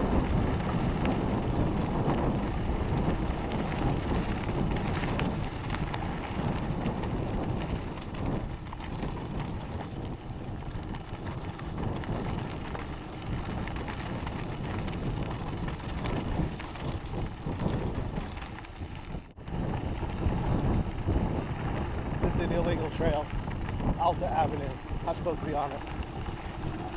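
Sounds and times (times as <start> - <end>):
bike clicks and rattles: 0.0 - 26.9
bike tyres rumbling on dirt: 0.0 - 26.9
wind buffeting microphone: 0.0 - 26.9.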